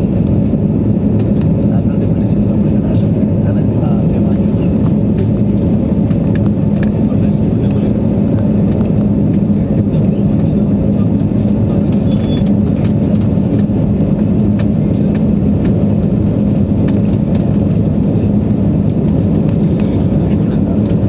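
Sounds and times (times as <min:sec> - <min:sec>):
airliner engine drone in cabin: 0:00.0 - 0:21.0.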